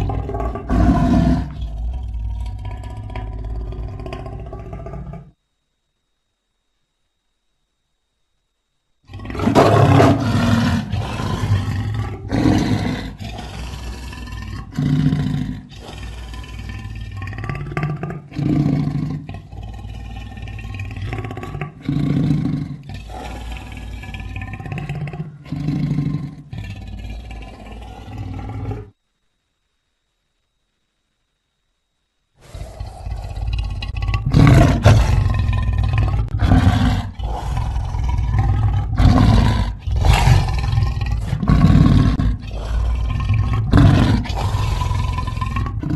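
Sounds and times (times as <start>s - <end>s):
big cat roars: 0.0s - 5.4s, 9.1s - 29.0s, 32.4s - 45.9s
deep rumbling growl: 0.0s - 5.4s, 9.1s - 29.0s, 32.4s - 45.9s.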